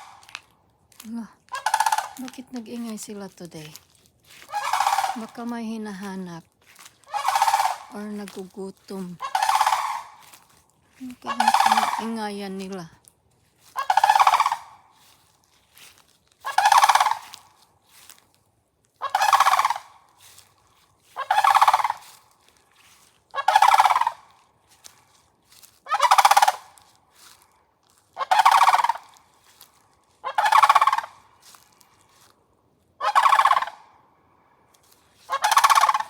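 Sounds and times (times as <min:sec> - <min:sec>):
cranes calling: 0:00.0 - 0:00.4, 0:01.0 - 0:12.9, 0:13.6 - 0:18.2, 0:19.0 - 0:27.4, 0:28.1 - 0:32.3, 0:33.0 - 0:34.0, 0:34.7 - 0:36.0.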